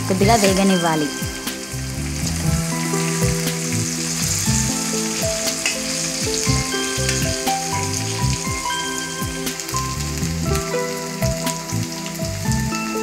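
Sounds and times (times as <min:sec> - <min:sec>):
background music of held notes: 0:00.0 - 0:13.0
oil sizzling in a frying pan: 0:00.0 - 0:13.0.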